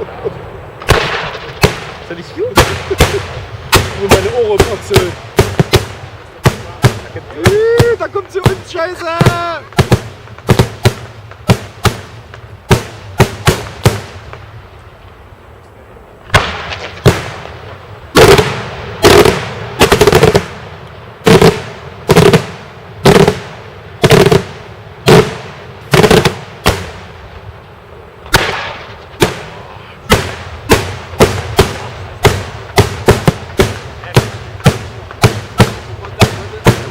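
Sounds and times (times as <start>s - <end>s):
fireworks bangs: 0.0s - 36.9s.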